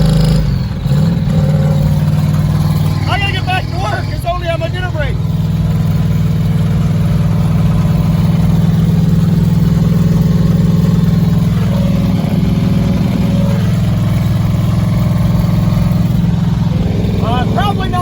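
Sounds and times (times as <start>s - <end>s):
engine running with rapid pulse: 0.0s - 18.0s.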